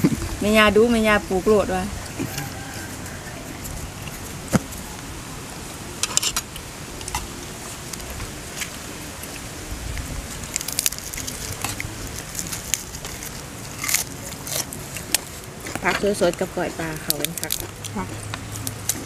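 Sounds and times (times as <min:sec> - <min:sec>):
leafy greens rustling: 0:00.0 - 0:19.0.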